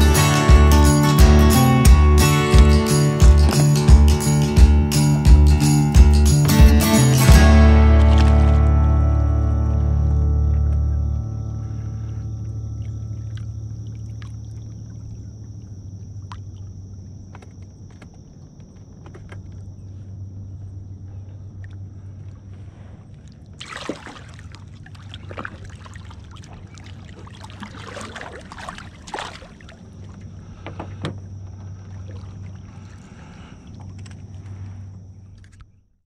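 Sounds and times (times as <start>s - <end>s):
low hum: 0.0s - 36.0s
water splashing against boat: 6.5s - 35.8s.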